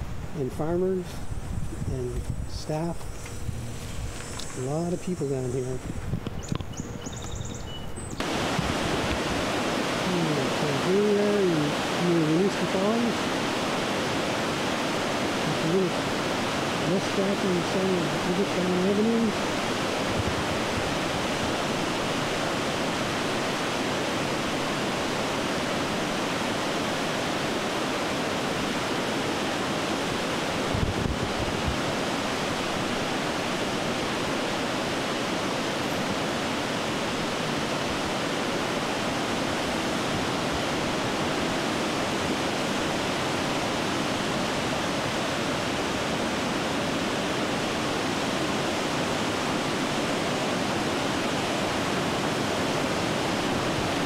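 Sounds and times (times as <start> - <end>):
river rushing over rapids: 8.2 - 54.0.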